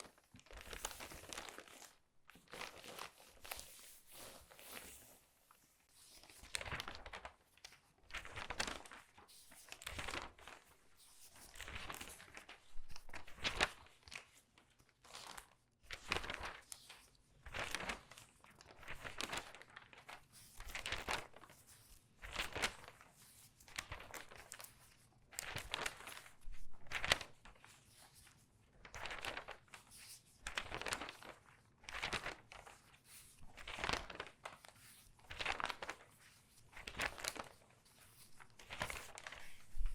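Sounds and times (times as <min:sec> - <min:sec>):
newspaper pages turning: 0:00.1 - 0:05.2, 0:06.2 - 0:10.8, 0:15.1 - 0:16.8, 0:17.5 - 0:23.1, 0:23.7 - 0:39.9.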